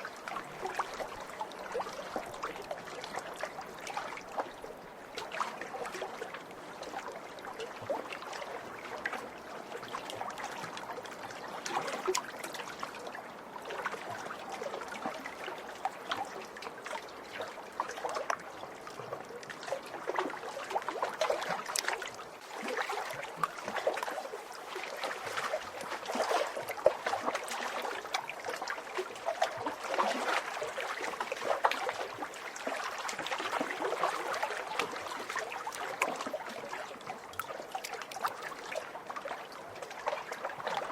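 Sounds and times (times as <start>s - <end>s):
small waves lapping on shore: 0.0s - 40.9s.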